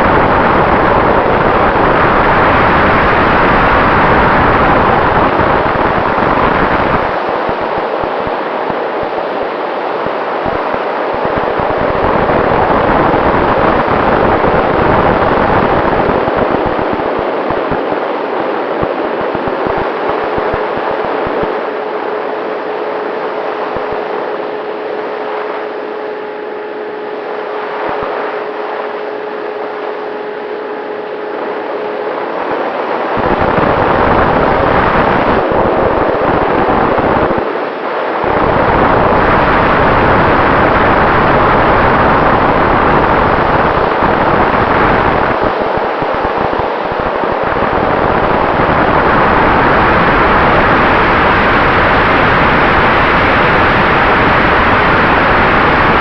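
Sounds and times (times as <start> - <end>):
electric ducted fan whine: 0.0 - 56.0
loud fan rushing noise: 0.0 - 56.0.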